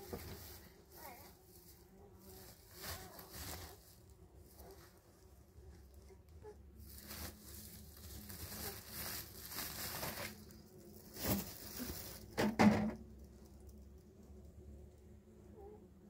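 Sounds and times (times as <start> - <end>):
plastic bag rustling: 0.0 - 13.6.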